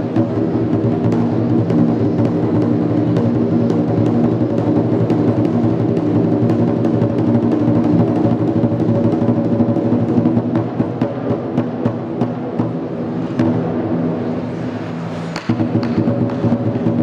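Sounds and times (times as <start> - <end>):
barrel drum roll with sticks: 0.0 - 14.3, 15.2 - 17.0.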